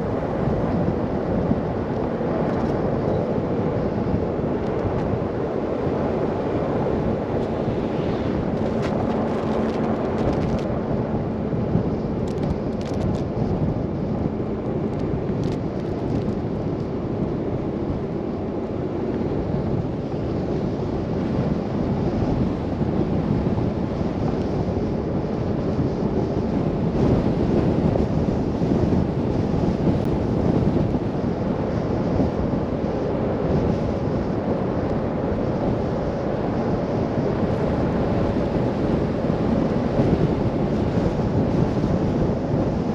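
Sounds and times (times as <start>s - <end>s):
car road noise: 0.0s - 42.9s
rushing wind: 0.0s - 42.9s.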